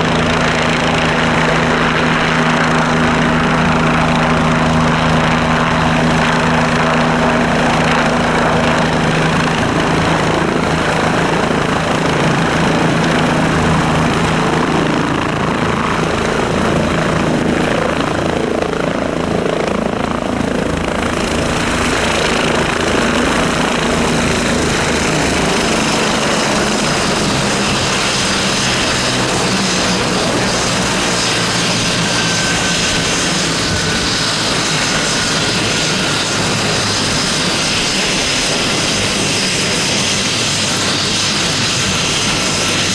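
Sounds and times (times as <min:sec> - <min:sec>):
helicopter rotors turning: 0:00.0 - 0:42.9
turbine whine: 0:00.0 - 0:42.9.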